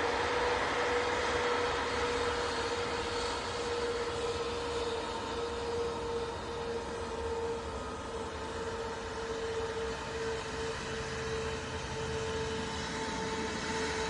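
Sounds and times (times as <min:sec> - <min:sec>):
jet engines whining: 0:00.0 - 0:14.0.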